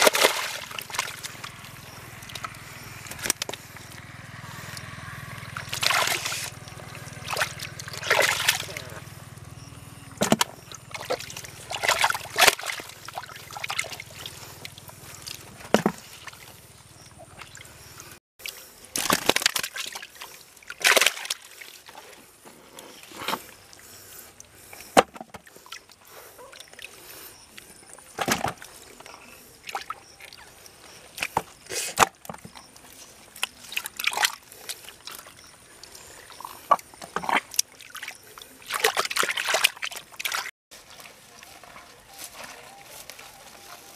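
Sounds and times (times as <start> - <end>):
muddy water sloshing and splashing: 0.0 - 43.9.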